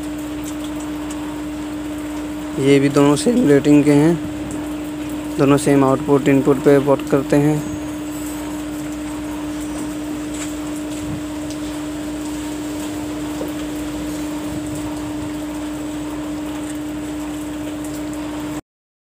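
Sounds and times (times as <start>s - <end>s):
steady mid-low hum: 0.0s - 18.6s.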